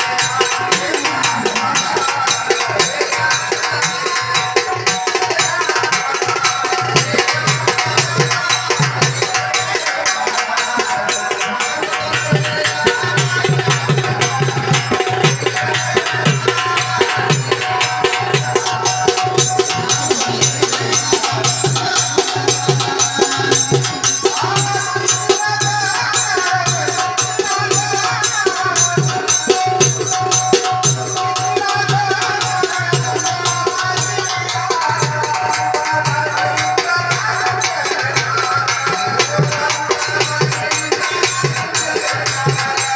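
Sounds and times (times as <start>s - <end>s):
hand drum fast rhythm: 0.0s - 42.9s.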